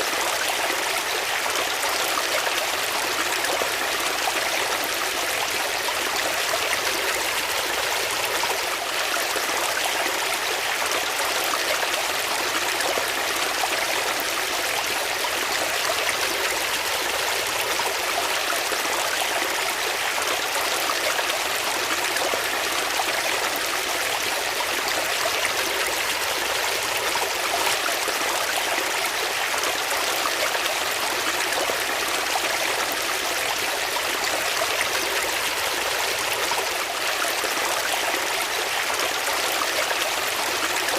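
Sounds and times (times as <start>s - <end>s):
stream running and trickling: 0.0s - 40.9s.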